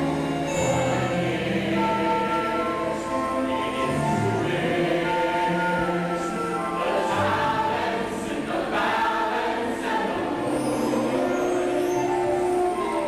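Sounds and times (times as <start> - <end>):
chorus singing held notes: 0.0 - 13.0
musical accompaniment: 0.0 - 13.0.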